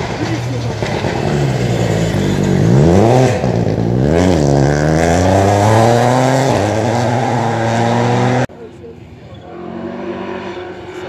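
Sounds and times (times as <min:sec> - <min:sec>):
rally car engine revving: 0:00.0 - 0:08.5, 0:09.3 - 0:11.0.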